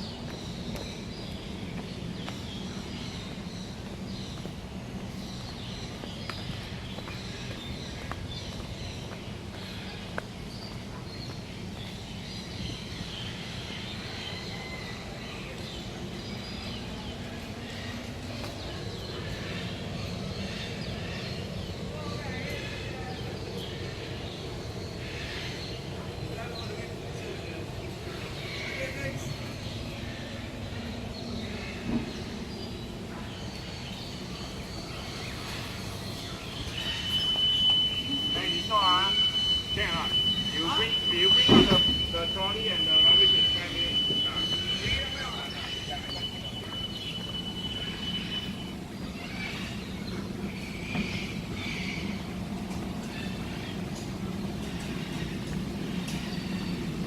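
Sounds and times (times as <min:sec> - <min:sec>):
birds chirping: 0:00.0 - 0:57.0
steady background hum: 0:00.0 - 0:57.0.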